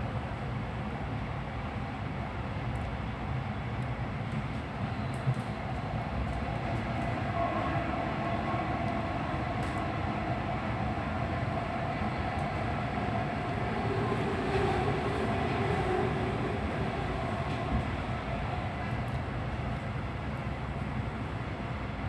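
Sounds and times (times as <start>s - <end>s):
train wheels rumbling on rails: 2.7s - 21.6s.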